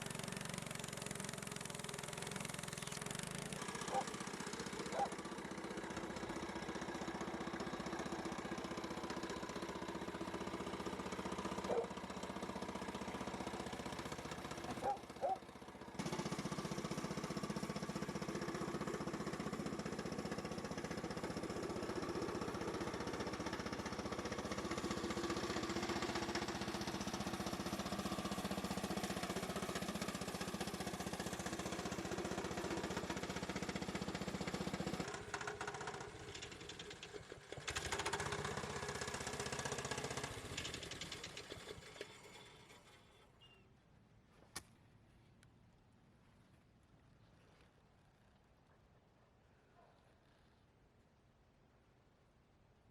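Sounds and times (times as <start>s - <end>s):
sawmill engine running: 0.0s - 43.3s.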